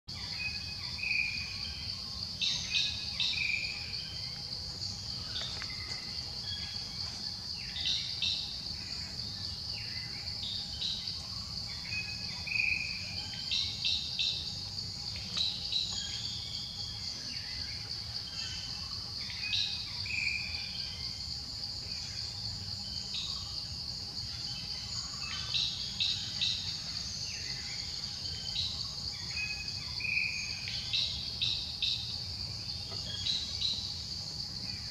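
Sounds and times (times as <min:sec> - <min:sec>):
insects droning: 0:00.1 - 0:34.9.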